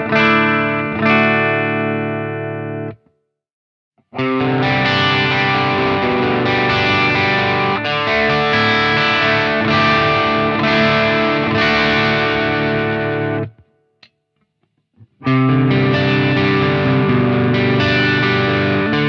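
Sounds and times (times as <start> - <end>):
distorted electric guitar: 0.0 - 3.0, 4.0 - 13.7, 15.0 - 19.0.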